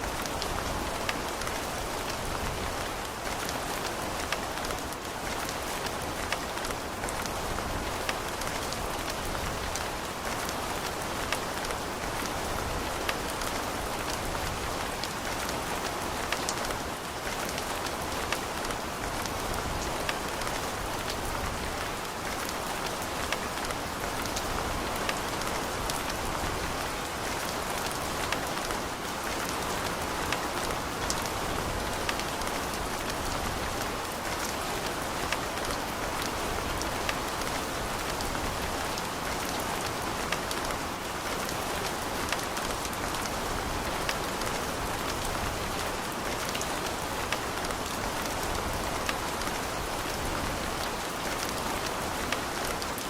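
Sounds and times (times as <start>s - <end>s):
raindrops ticking on a surface: 0.0s - 53.0s
steady rain: 0.0s - 53.0s.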